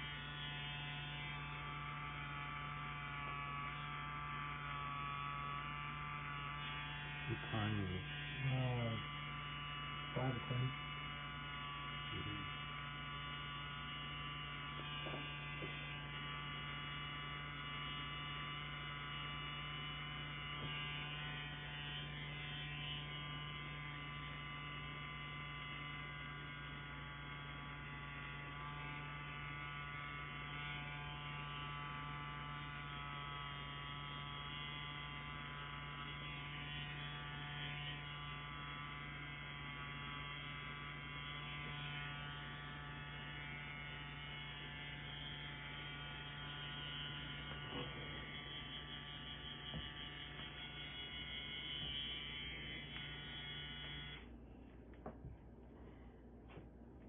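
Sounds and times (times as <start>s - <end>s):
tattoo pen motor buzzing: 0.0s - 55.0s.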